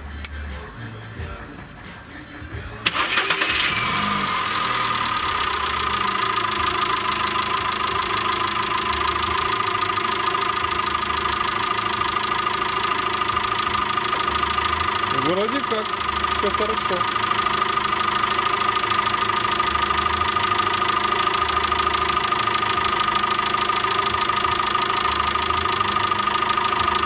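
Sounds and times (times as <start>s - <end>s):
engine idling with high whine: 0.0s - 27.0s
engine cranking and starting: 2.8s - 27.0s.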